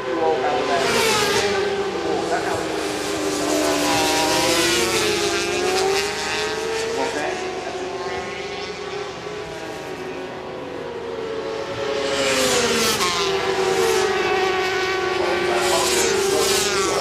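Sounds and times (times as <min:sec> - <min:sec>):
racing motorcycles at high revs: 0:00.1 - 0:17.0.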